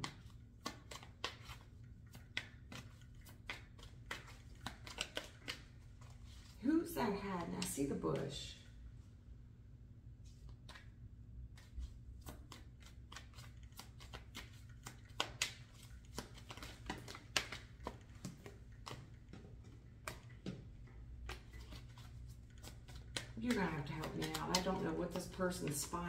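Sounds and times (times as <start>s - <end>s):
cards being shuffled: 0.0s - 8.3s, 10.2s - 26.0s.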